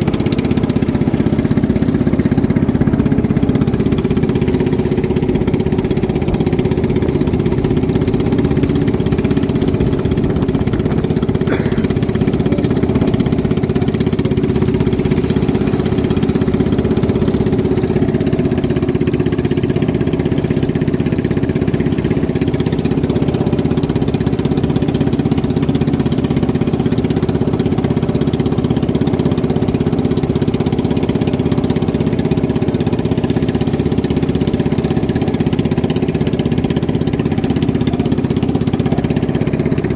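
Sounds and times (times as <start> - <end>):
racing boat engines droning: 0.0 - 39.9.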